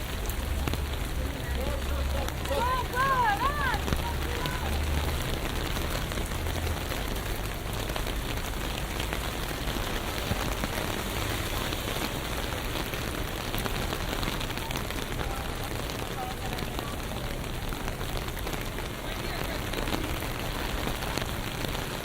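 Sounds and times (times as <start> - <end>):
low rumble of traffic: 0.0 - 22.0
rain hiss with drop ticks: 0.0 - 22.0.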